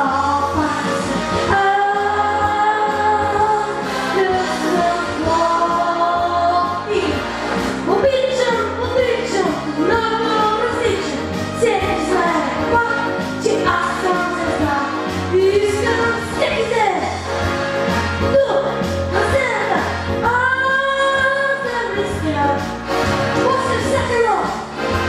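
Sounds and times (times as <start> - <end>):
backing track with bass line: 0.0 - 25.0
person singing pop song: 0.0 - 25.0.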